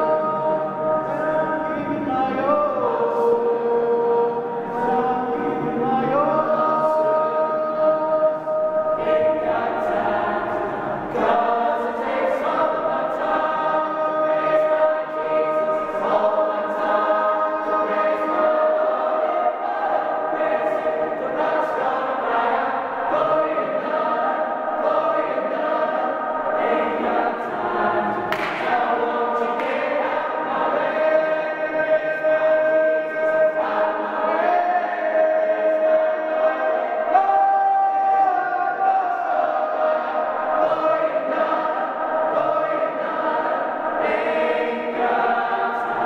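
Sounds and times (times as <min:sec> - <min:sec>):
choir singing a hymn: 0:00.0 - 0:46.0.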